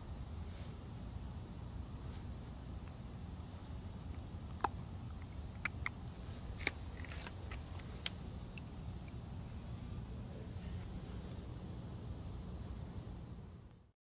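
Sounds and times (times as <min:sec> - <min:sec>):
low steady rumble: 0:00.0 - 0:13.9.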